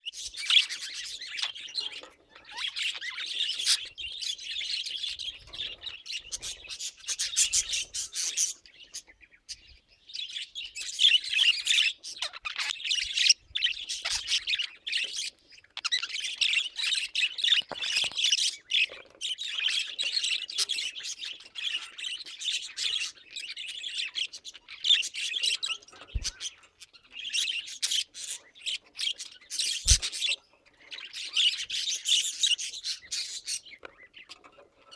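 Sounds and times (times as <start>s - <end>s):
budgerigars chattering and chirping: 0.0s - 34.9s.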